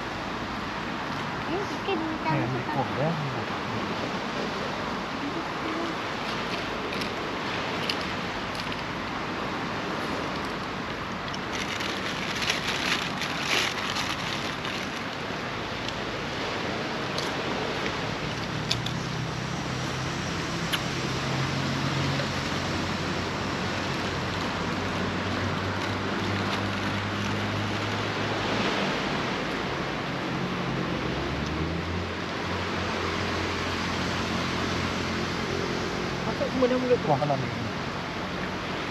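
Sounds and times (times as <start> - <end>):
sea waves washing on beach: 0.0 - 38.9.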